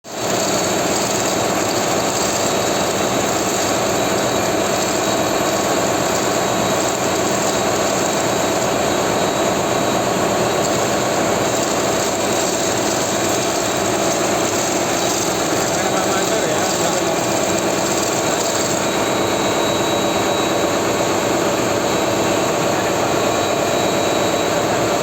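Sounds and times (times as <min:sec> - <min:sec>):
engine room machinery drone: 0:00.1 - 0:25.0.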